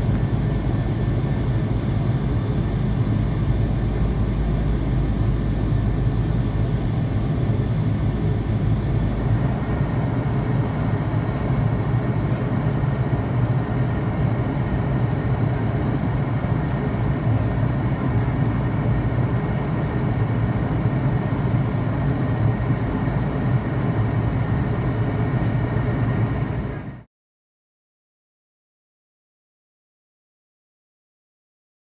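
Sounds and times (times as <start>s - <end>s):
jet engines at takeoff: 0.0s - 27.1s.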